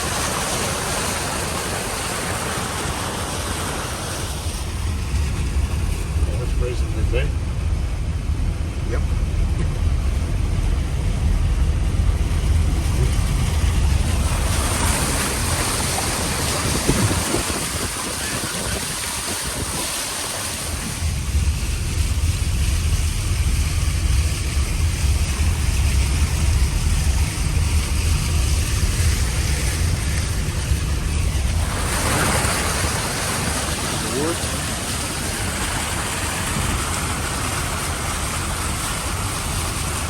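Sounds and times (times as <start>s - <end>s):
low engine and road rumble: 0.0s - 40.0s
water spraying against vehicle: 0.0s - 40.0s.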